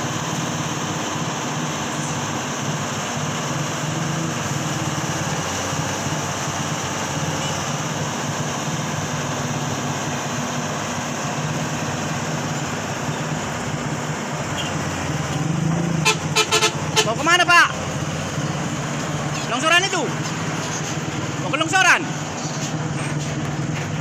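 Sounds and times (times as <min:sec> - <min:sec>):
heavy vehicle engine running: 0:00.0 - 0:24.0.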